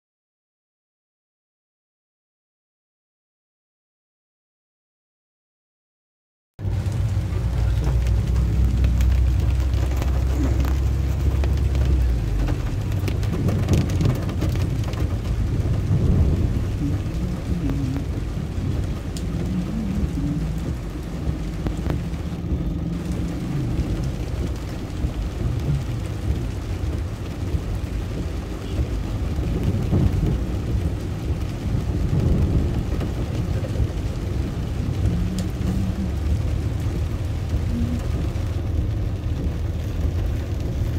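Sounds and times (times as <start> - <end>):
waterfall roaring: 6.6 - 40.6.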